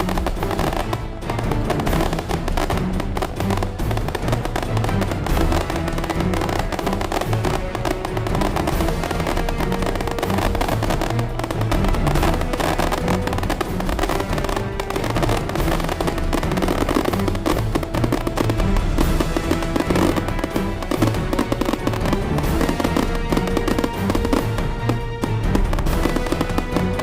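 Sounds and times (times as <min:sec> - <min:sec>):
firecrackers crackling: 0:00.0 - 0:27.0.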